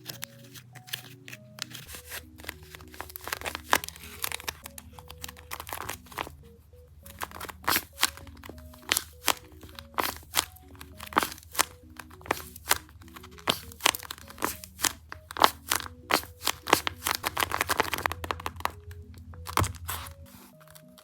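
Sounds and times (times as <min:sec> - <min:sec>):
paper crinkling: 0:00.0 - 0:21.0
soft background music: 0:00.0 - 0:21.0.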